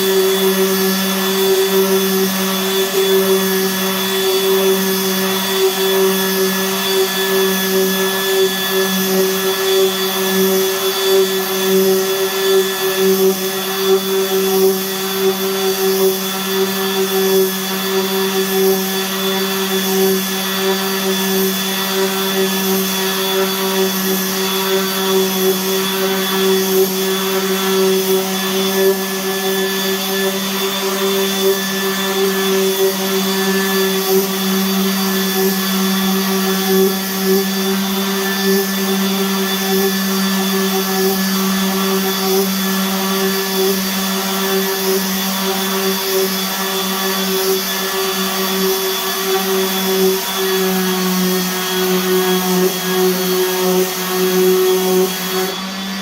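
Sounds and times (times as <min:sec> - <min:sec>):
power sander on wood: 0:00.0 - 0:56.0.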